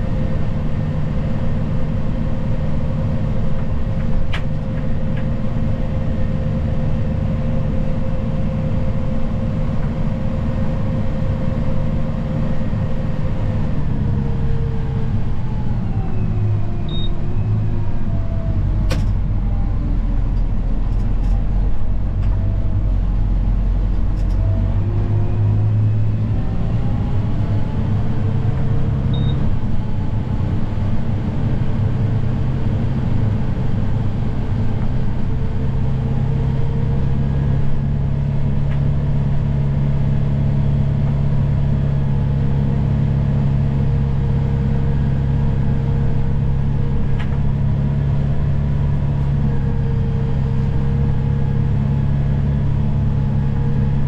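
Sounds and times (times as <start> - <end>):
snow plow engine running: 0.0 - 54.0.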